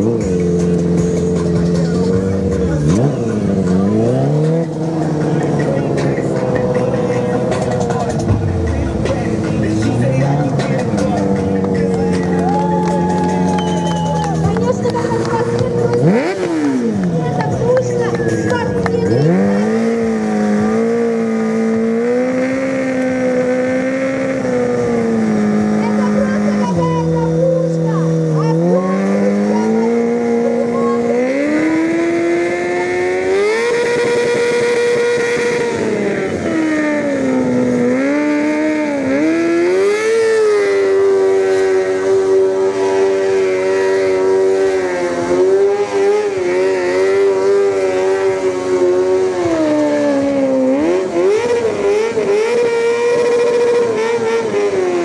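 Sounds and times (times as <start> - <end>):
motorcycle engine revving high: 0.0 - 55.0.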